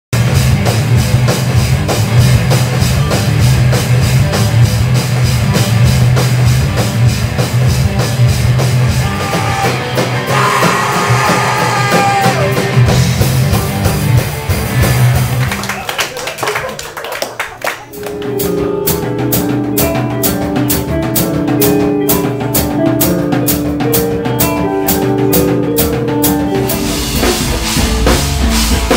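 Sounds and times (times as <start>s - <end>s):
live rock band playing: 0.1s - 15.8s, 17.8s - 28.9s
drum kit beat: 0.1s - 16.1s, 17.8s - 28.9s
electric guitars: 0.2s - 15.8s, 17.9s - 28.9s.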